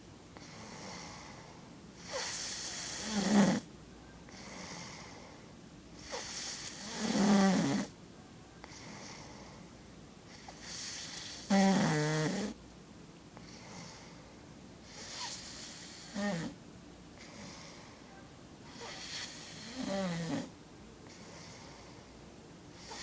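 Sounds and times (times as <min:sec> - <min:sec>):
quiet breaths: 0:00.0 - 0:12.6, 0:13.2 - 0:23.0.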